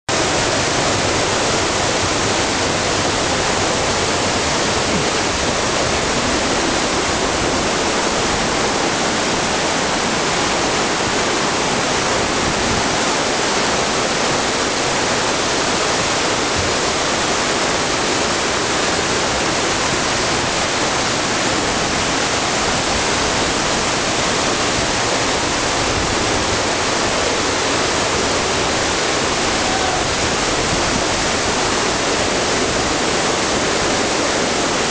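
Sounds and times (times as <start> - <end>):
stream rushing over boulders: 0.1 - 34.9.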